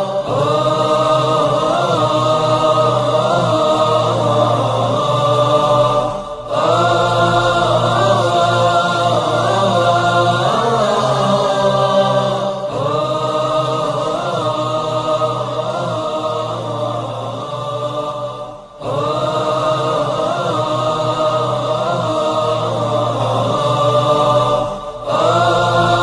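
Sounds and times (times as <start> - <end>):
low drone: 0.0 - 26.0
wordless choir voices: 0.0 - 26.0.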